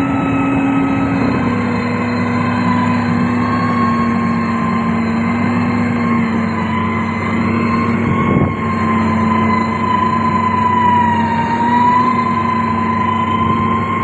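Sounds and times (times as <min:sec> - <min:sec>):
diesel engine running: 0:00.0 - 0:14.0
steady whine: 0:00.0 - 0:14.0.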